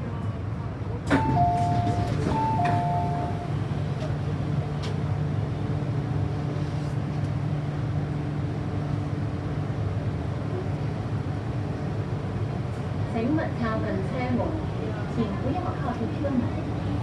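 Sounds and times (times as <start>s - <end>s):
train low hum: 0.0s - 17.0s.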